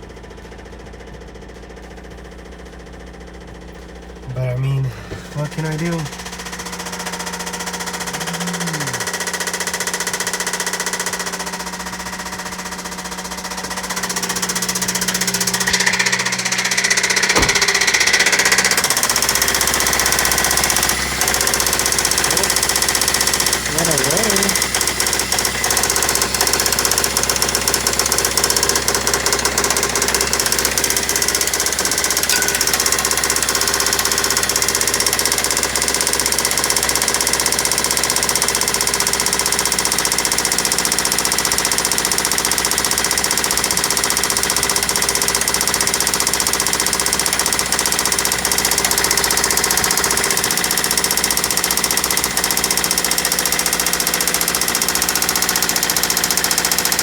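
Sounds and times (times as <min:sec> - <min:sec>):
engine running with rapid knock: 0:00.0 - 0:57.0.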